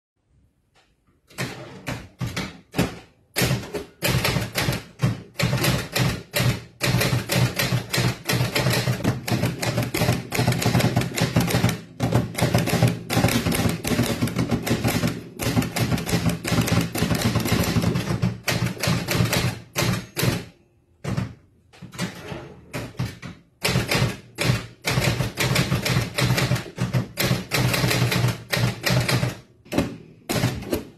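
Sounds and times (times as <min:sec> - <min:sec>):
typewriter keystrokes: 0:01.3 - 0:29.4.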